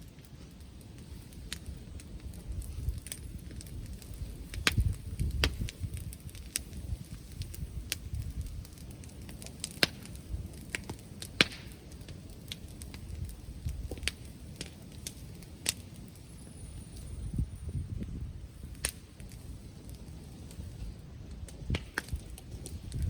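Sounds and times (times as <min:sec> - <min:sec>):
bonfire crackling and popping: 0:00.0 - 0:23.0
wind rumble on microphone: 0:00.2 - 0:23.0.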